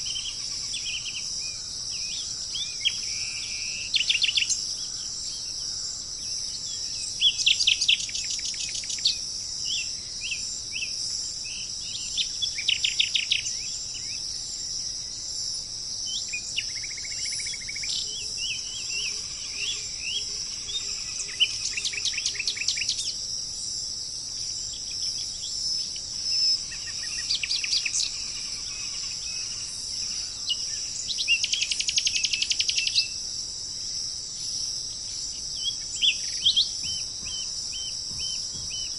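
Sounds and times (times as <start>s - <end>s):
crickets chirping drone: 0.0s - 38.9s
songbird singing: 0.0s - 38.9s.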